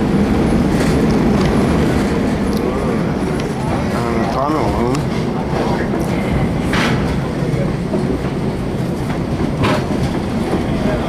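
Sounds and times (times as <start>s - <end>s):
train cars rumbling: 0.0s - 11.0s.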